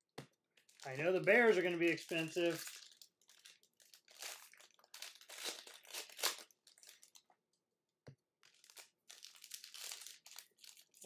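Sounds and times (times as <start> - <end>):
wrapper tearing and crinkling: 0.6 - 7.2, 8.4 - 11.0.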